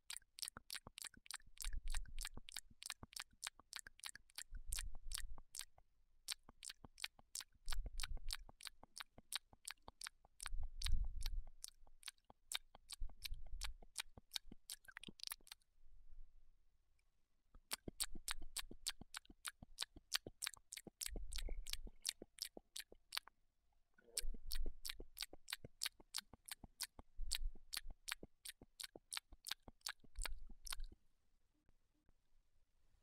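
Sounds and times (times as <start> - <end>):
cat tongue licking screen: 0.0 - 15.6, 17.6 - 23.3, 24.2 - 31.0.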